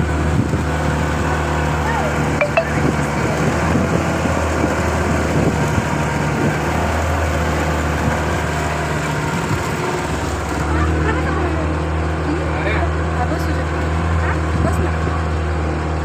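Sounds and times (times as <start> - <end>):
outboard motor humming: 0.0 - 16.0.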